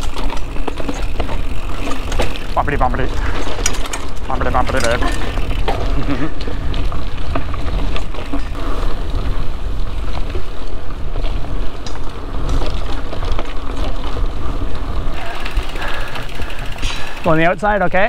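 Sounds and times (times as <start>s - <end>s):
bike clicks and rattles: 0.0s - 18.0s
bike tyre noise: 0.0s - 18.0s
wind buffeting microphone: 0.0s - 18.0s.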